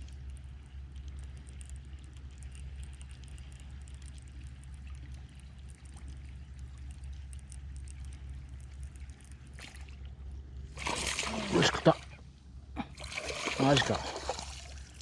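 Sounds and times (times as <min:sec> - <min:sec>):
creek water running: 0:01.6 - 0:15.0.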